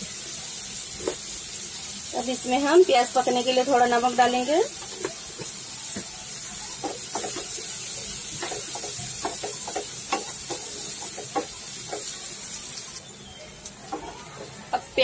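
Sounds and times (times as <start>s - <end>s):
onions sizzling in butter: 0.0s - 15.0s.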